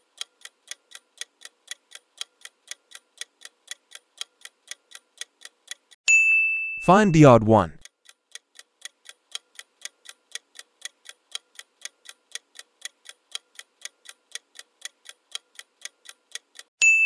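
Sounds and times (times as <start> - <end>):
clock ticking: 0.0 - 6.0, 6.8 - 16.7.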